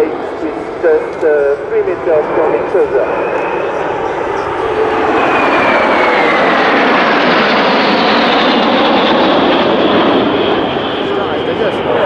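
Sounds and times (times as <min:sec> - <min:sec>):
jet engines roaring past: 0:00.0 - 0:12.0.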